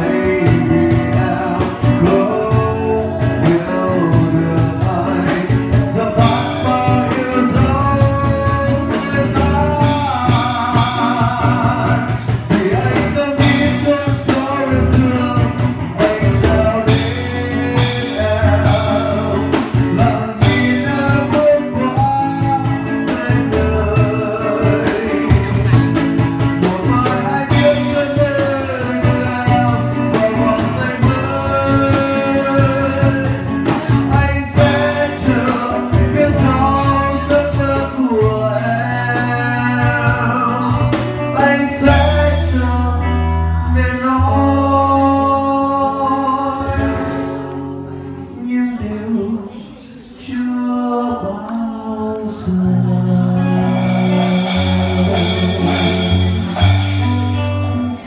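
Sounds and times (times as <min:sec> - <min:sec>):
cajon drumming: 0:00.0 - 0:47.6, 0:53.4 - 0:58.0
acoustic guitar: 0:00.0 - 0:58.0
man singing into a microphone: 0:00.0 - 0:58.0.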